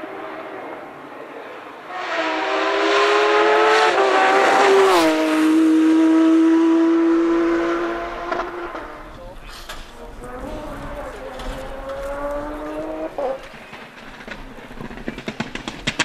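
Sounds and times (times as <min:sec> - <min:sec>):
rally car engine passing by: 0:00.0 - 0:16.0.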